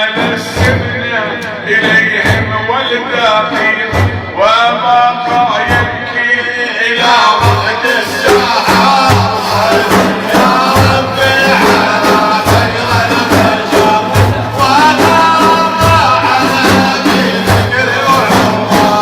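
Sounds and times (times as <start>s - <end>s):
drums beating: 0.0s - 19.0s
voices singing: 0.0s - 19.0s.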